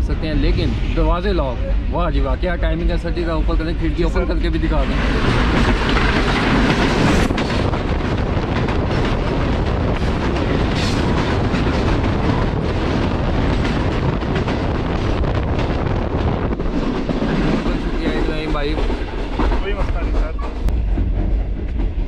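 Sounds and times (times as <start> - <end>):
rushing wind: 0.0 - 22.0
train wheels rumbling on rail: 0.0 - 22.0.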